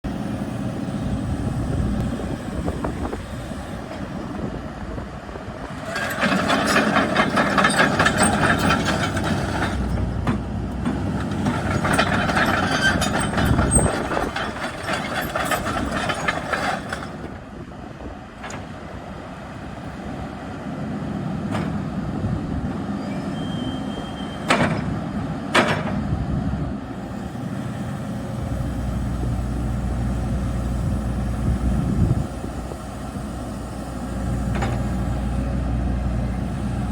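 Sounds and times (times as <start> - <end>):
excavator running: 0.0 - 36.9.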